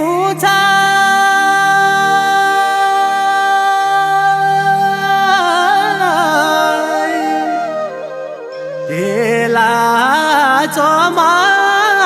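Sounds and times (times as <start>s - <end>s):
man singing ornamented melody: 0.0s - 12.0s.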